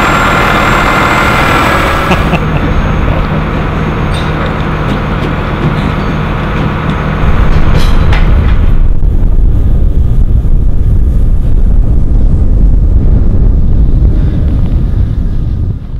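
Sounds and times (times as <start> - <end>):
truck engine humming: 0.0 - 15.9
wind buffeting microphone: 0.1 - 15.9.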